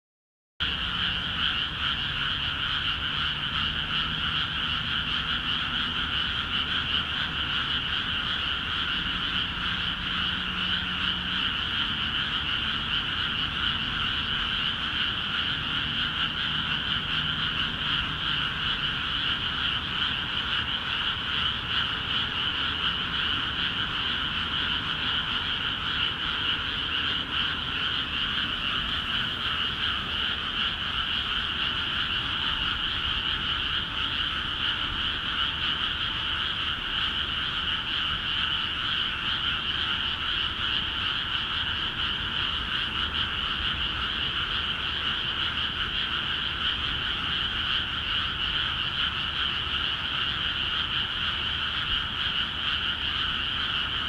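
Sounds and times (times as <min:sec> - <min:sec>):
frogs croaking in chorus: 0:00.6 - 0:54.0.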